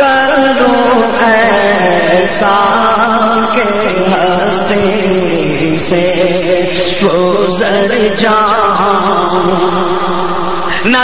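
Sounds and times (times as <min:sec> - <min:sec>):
man singing: 0:00.0 - 0:11.0
steady drone: 0:00.0 - 0:11.0.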